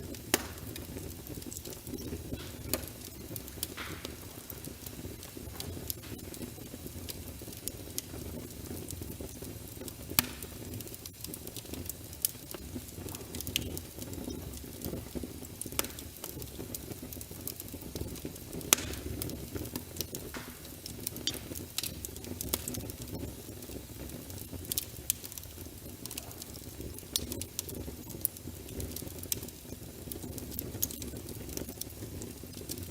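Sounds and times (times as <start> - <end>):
fire crackling and popping: 0.0 - 32.9.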